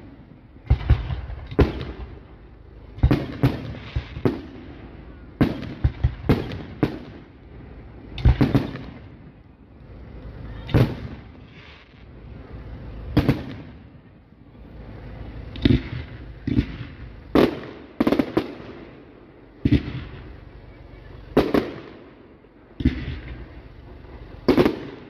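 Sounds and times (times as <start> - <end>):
firework bursts with echo: 0.0 - 25.0.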